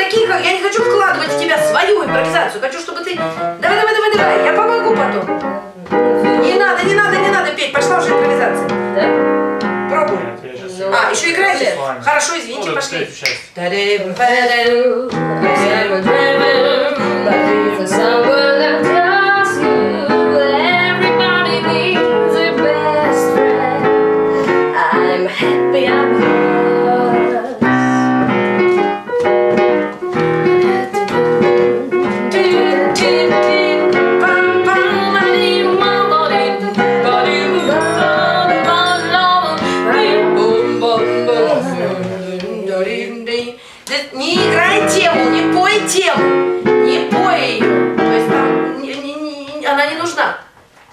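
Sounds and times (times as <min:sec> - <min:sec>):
woman singing: 0:00.0 - 0:09.3, 0:13.5 - 0:28.4, 0:30.4 - 0:50.3
swing jazz piano: 0:00.0 - 0:50.9.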